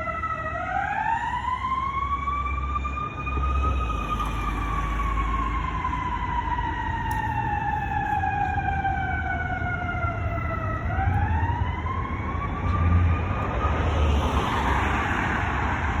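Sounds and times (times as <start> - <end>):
fire engine siren wailing: 0.0 - 16.0
fire truck engine rumble: 0.0 - 16.0.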